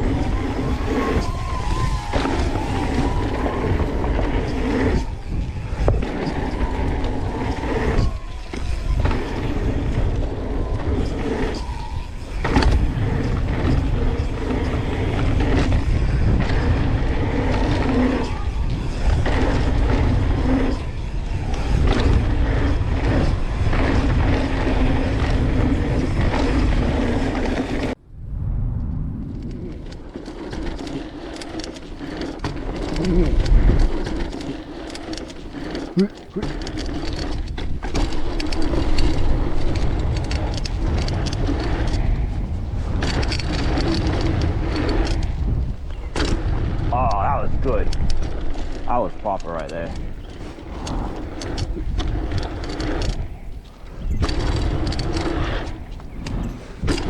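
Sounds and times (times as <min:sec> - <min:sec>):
drone motors humming: 0:00.0 - 0:28.0, 0:29.3 - 0:57.0
low wind rumble: 0:00.0 - 0:57.0
rough rumble: 0:00.0 - 0:57.0.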